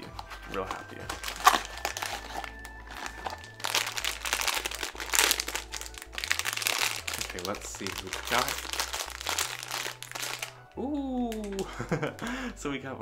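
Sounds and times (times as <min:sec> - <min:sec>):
wrapper bag crinkling: 0:00.0 - 0:12.4.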